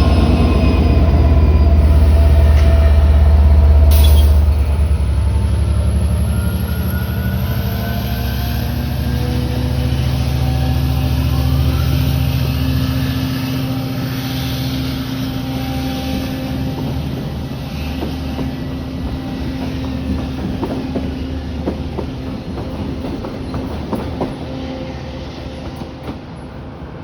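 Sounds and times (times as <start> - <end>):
diesel locomotive engine rumbling: 0.0 - 27.0.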